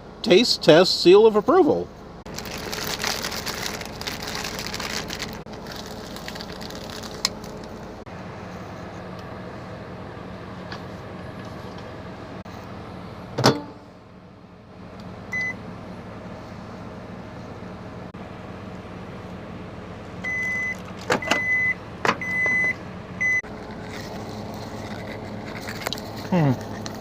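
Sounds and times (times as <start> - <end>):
low engine-like hum: 0.0 - 27.0.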